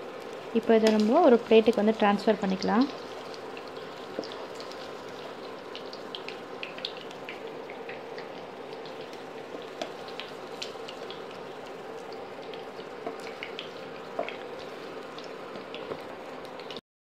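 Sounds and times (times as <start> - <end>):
paneer frying in hot oil: 0.0 - 16.8.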